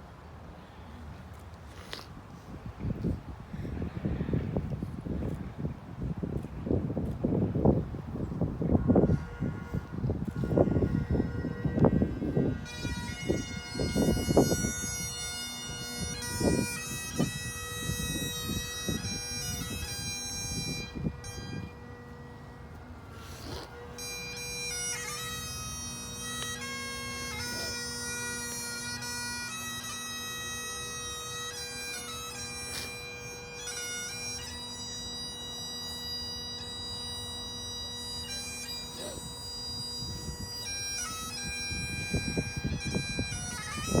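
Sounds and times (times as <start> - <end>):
bagpipes playing slow tune: 8.5 - 44.0.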